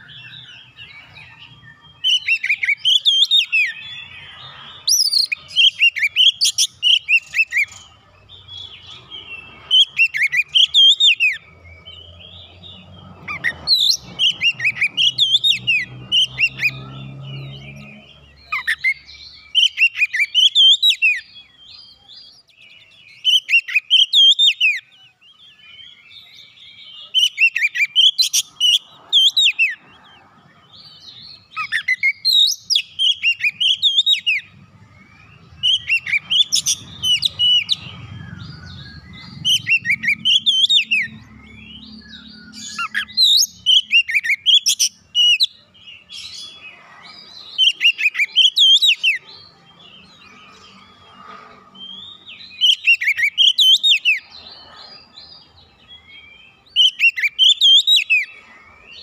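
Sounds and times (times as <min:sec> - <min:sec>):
bird singing whistles and chirps: 0:00.0 - 0:59.0.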